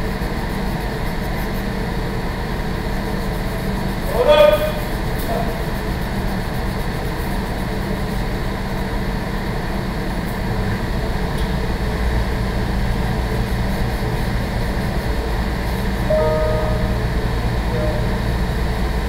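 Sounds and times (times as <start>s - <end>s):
ventilation hum and hiss: 0.0s - 19.0s.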